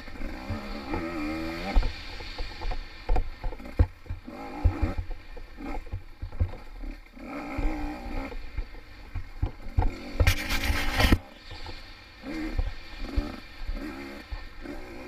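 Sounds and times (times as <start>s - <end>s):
dirt bike engine revving: 0.0s - 2.7s, 3.3s - 15.0s.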